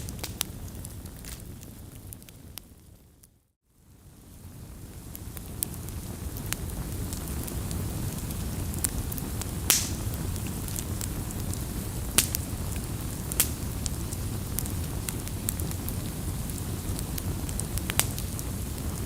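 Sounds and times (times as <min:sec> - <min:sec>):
campfire crackling and popping: 0:00.0 - 0:03.3, 0:04.2 - 0:19.0.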